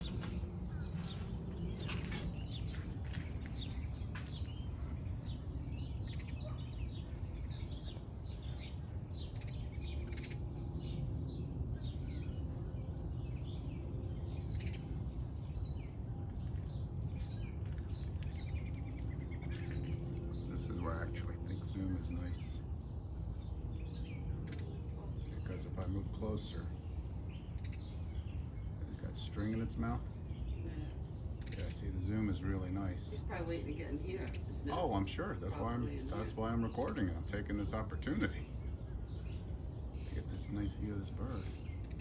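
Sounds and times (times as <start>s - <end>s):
low outdoor rumble: 0.0s - 42.0s
small birds chirping: 0.0s - 42.0s.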